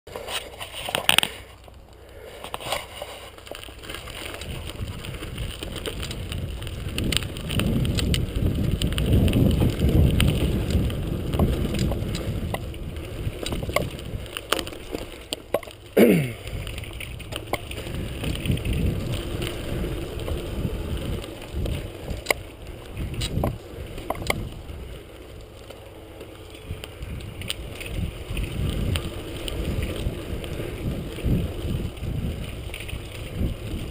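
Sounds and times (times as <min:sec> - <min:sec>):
bicycle rattles and knocks: 0:00.1 - 0:33.9
wind buffeting microphone: 0:03.8 - 0:15.1, 0:16.4 - 0:25.6, 0:26.5 - 0:33.9.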